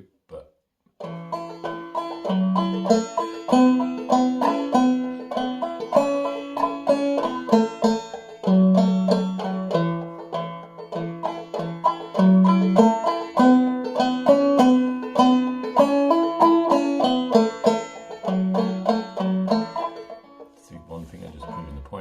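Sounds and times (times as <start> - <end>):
banjo played clawhammer style: 1.0 - 22.0.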